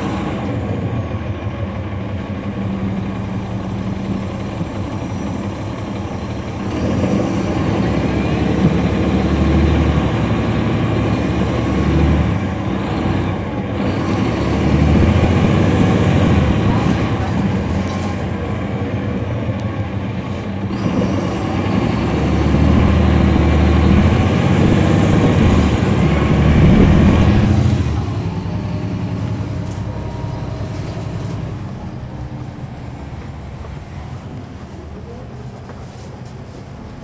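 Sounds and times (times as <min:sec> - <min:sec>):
bus diesel engine: 0:00.0 - 0:37.0.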